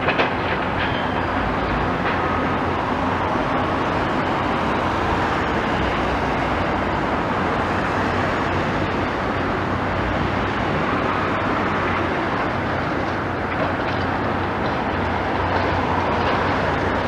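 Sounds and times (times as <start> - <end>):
motor vehicle noise: 0.0 - 17.0.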